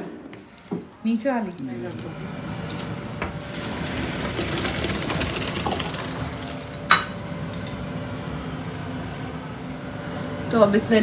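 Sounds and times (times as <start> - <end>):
mechanical hum with hiss: 0.0 - 11.0.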